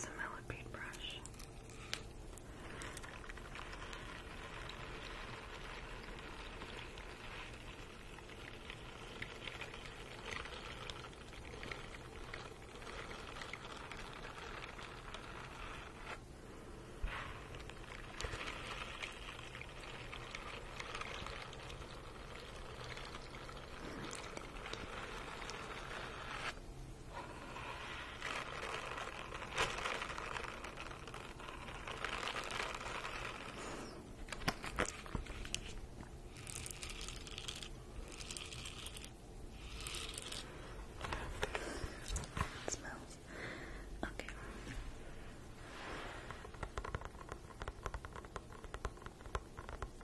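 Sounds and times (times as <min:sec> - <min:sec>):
brush scrubbing rubber ball: 0:00.0 - 0:43.2, 0:44.4 - 0:50.0.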